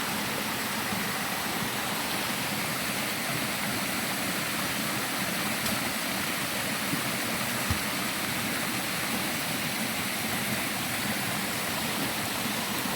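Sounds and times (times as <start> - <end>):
small waterfall splashing: 0.0 - 12.9.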